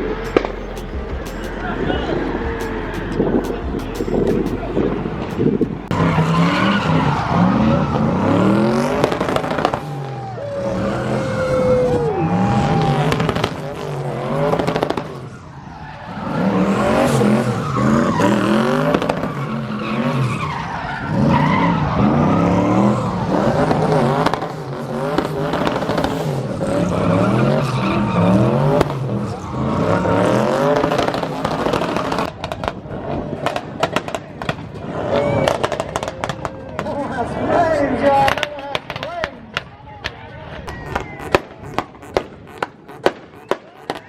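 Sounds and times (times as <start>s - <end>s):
car engines revving hard: 0.0s - 39.0s.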